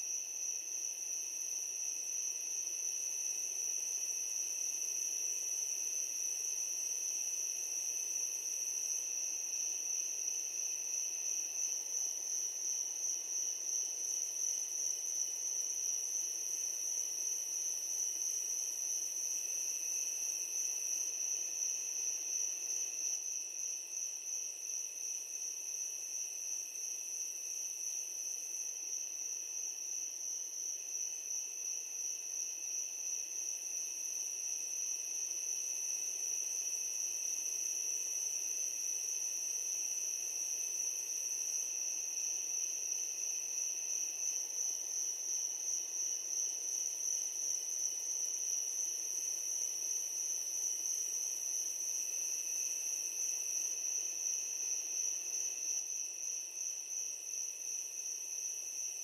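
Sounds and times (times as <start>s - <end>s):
high-pitched cricket trill: 0.0s - 59.0s.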